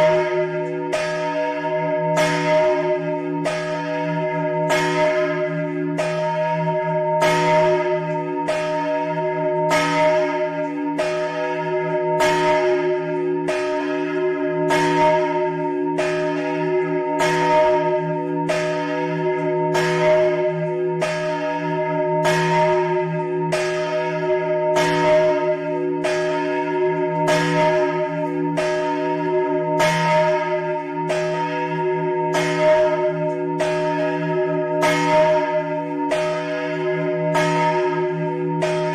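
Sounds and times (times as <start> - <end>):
large bell pealing: 0.0 - 38.9.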